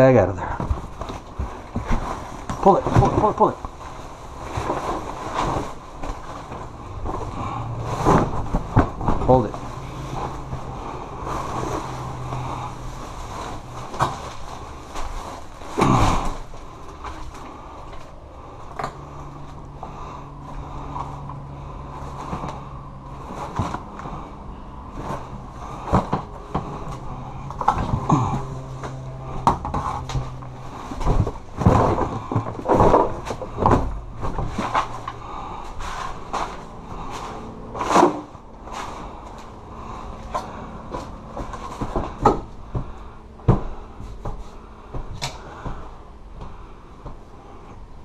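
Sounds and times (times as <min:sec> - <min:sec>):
bags and cardboard rustling: 0:00.0 - 0:48.0
objects knocking and clattering: 0:00.4 - 0:47.4.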